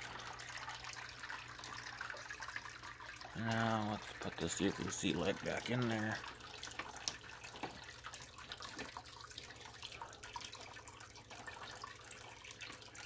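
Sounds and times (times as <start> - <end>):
low pump hum: 0.0 - 13.0
water trickling and splashing: 0.0 - 13.0.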